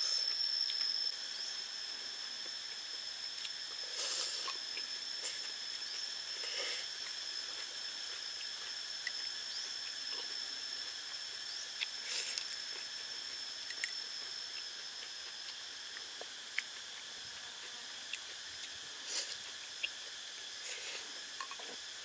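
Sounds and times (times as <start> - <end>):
insects droning: 0.0 - 22.0
slurping and chewing noodles: 1.9 - 22.0.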